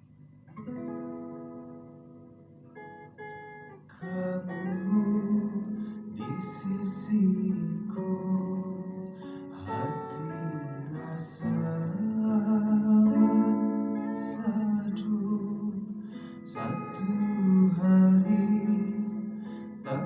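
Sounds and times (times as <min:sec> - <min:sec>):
guitar: 0:00.0 - 0:20.0
person singing slow song: 0:03.9 - 0:20.0.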